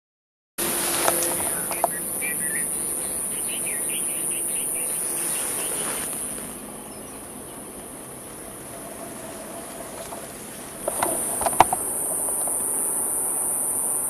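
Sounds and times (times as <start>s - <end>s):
crickets trilling: 0.6s - 14.0s.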